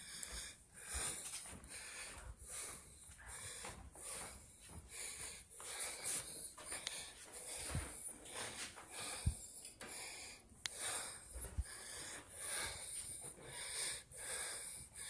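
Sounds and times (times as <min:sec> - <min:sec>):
person breathing: 0:00.0 - 0:15.0.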